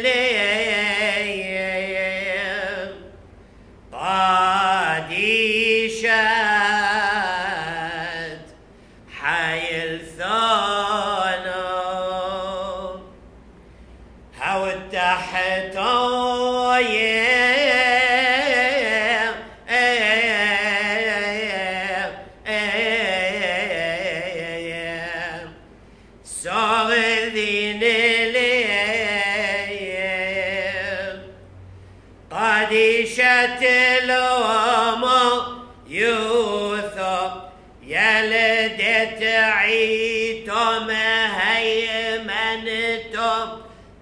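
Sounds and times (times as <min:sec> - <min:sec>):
man chanting a hymn: 0:00.0 - 0:03.2, 0:03.9 - 0:13.1, 0:14.3 - 0:25.6, 0:26.2 - 0:31.4, 0:32.3 - 0:43.8.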